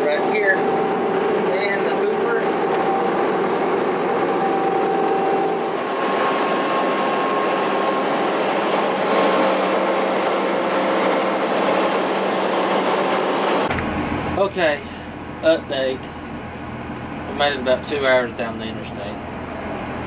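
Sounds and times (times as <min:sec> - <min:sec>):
bus cabin road noise: 0:00.0 - 0:20.0
faint steady whine: 0:00.0 - 0:20.0.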